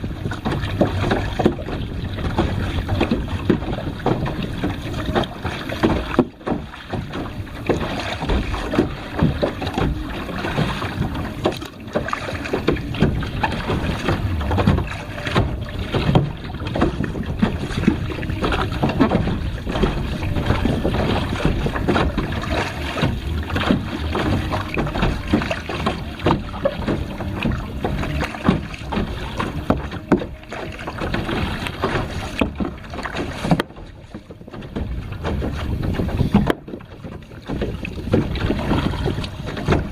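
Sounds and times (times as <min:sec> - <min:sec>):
water splashing and sloshing: 0:00.0 - 0:39.9
wind buffeting microphone: 0:00.0 - 0:39.9.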